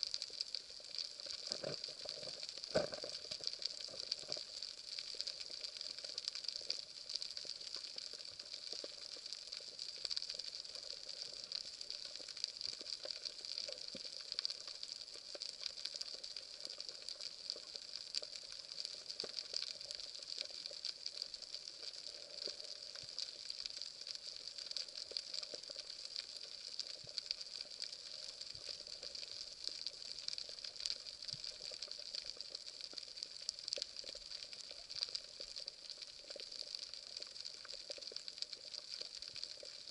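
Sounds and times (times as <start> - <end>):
underwater crackling hiss: 0.0 - 39.9.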